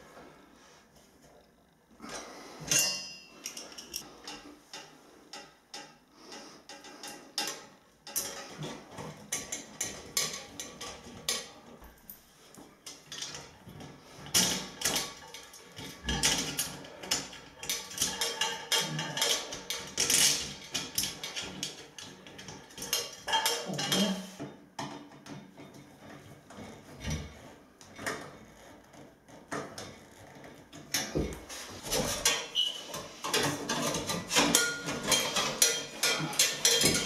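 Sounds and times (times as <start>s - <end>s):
steel parts clattering and knocking: 2.7s - 12.2s, 12.8s - 28.3s, 29.5s - 37.0s.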